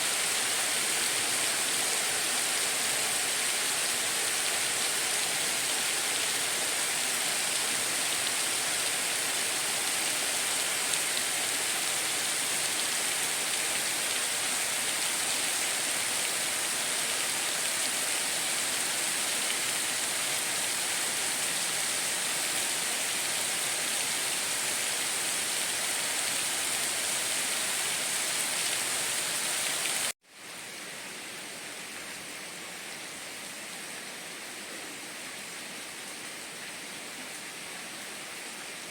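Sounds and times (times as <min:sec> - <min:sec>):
rushing water: 0:00.0 - 0:38.9
steady rain hiss: 0:00.0 - 0:38.9.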